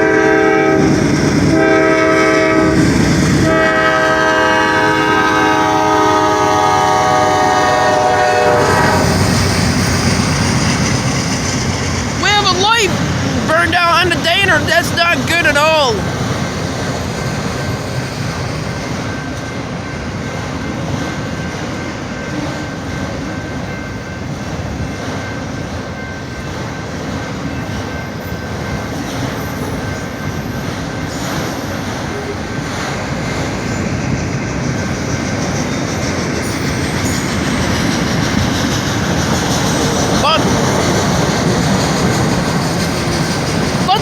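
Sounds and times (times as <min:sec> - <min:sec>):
train wheels clattering on rails: 0:00.0 - 0:13.6, 0:16.0 - 0:44.0.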